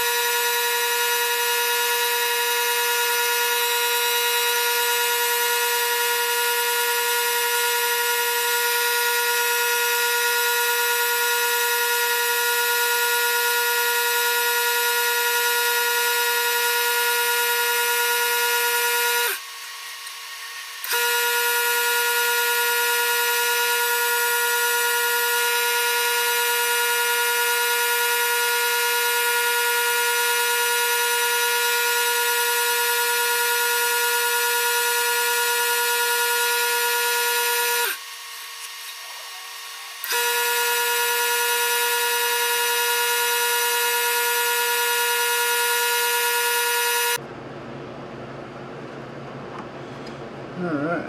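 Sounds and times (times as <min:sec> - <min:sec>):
gouge cutting resin: 0:00.0 - 0:47.2
lathe whine: 0:00.0 - 0:47.2.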